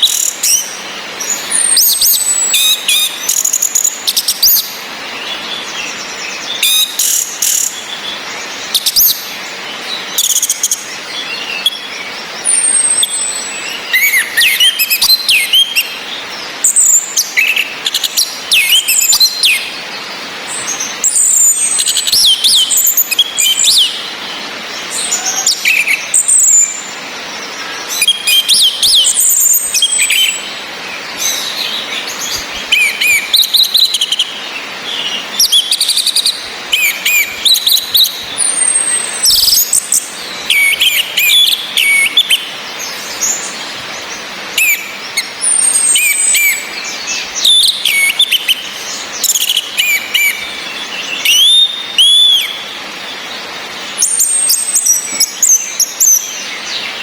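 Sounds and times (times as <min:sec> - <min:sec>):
rain hiss: 0:00.0 - 0:57.0
thrushes chirping and whistling: 0:00.0 - 0:57.0.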